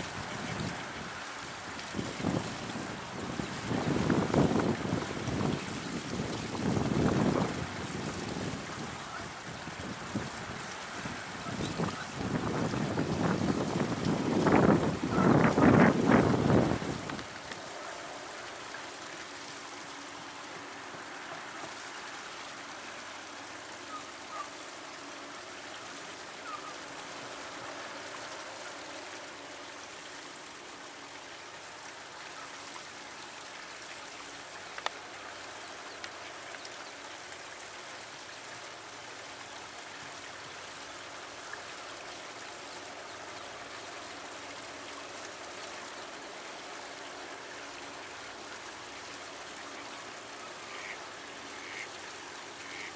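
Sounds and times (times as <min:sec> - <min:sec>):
running water: 0:00.0 - 0:52.9.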